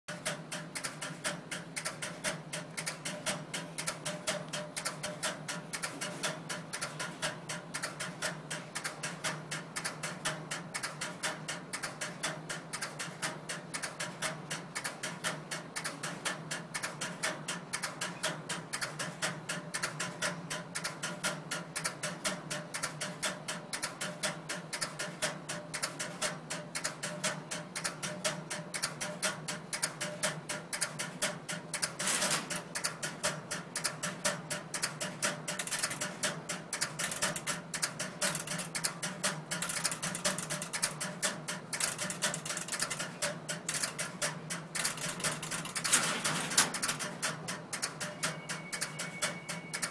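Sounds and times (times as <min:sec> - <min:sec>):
relays clicking rhythmically: 0:00.1 - 0:49.9.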